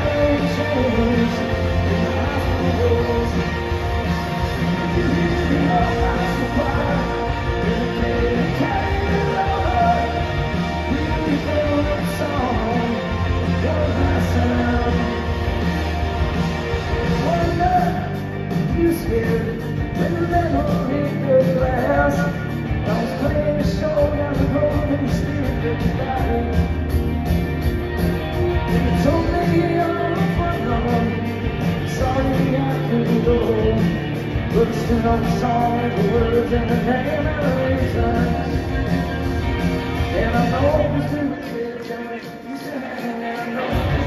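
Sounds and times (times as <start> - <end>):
person singing: 0.0 - 26.8, 28.5 - 44.0
live rock band playing: 0.0 - 44.0.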